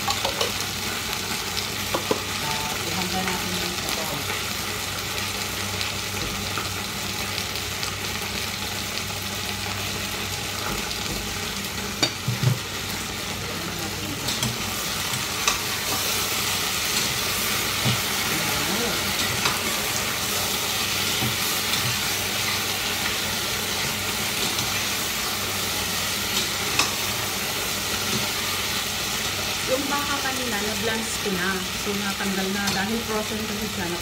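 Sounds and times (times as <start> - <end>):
meat sizzling in oil: 0.0 - 34.0.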